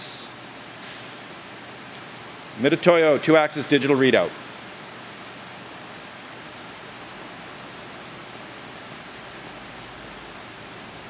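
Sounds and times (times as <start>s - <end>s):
room tone hiss: 0.0s - 11.0s.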